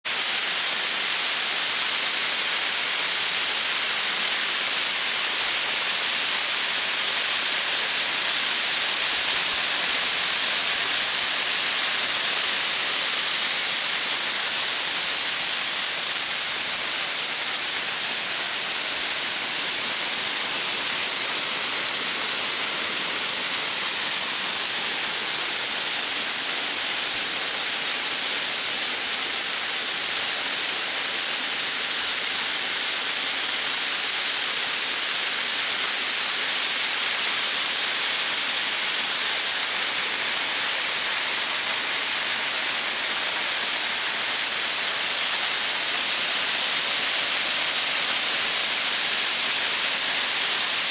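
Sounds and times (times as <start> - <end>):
waterfall rushing water: 0.1 - 50.9.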